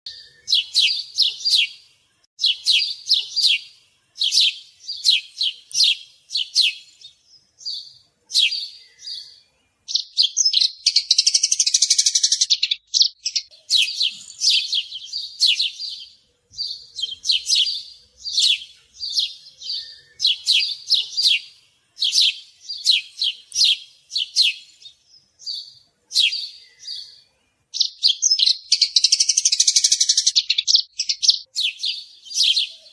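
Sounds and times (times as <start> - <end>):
bird chirping: 0.1 - 32.9.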